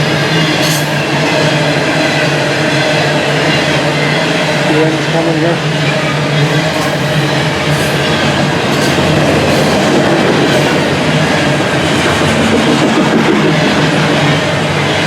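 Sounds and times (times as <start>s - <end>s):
train rumbling overhead: 0.0s - 15.0s.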